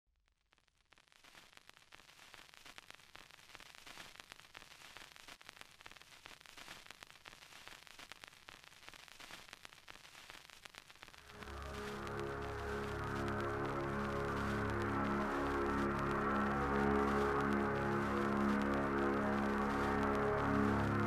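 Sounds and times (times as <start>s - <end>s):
old film crackle and hiss: 0.3s - 21.0s.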